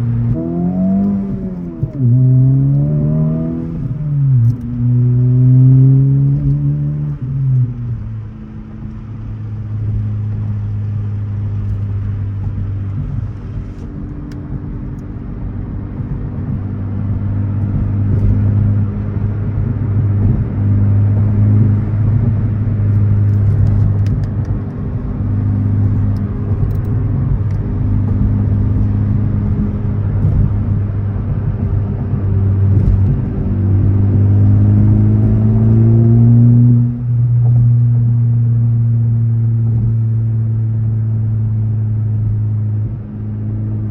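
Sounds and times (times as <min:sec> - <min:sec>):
car engine and exhaust droning: 0:00.0 - 0:43.9.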